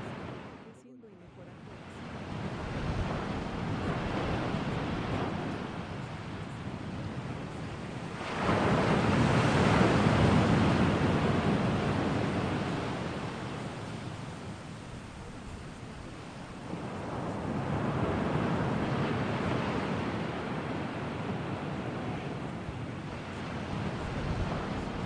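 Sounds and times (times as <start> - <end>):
ocean waves rushing: 0.0 - 25.0.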